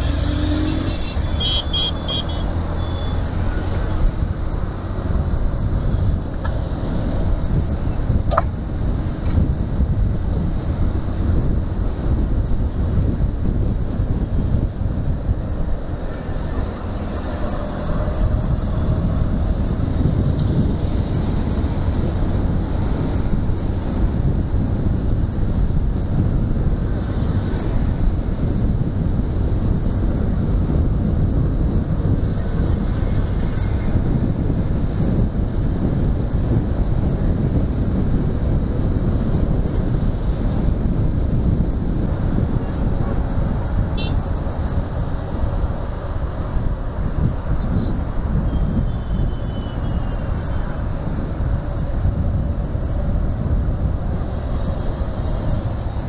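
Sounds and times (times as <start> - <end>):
motorcycle riding at speed: 0.0 - 56.0
wind rushing over microphone: 0.0 - 56.0.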